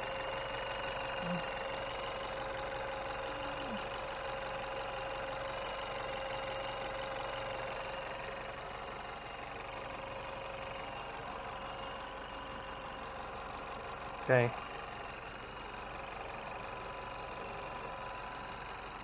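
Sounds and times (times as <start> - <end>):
car engine idling: 0.0 - 19.0
constant whine: 0.0 - 19.0.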